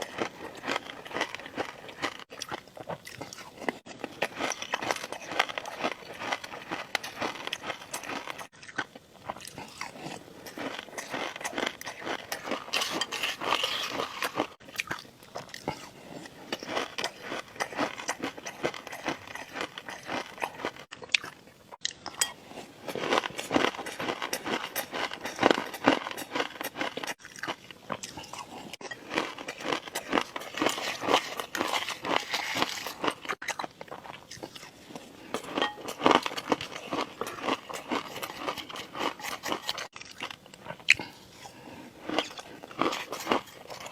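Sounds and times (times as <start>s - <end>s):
person chewing crunchy food: 0.0s - 43.9s.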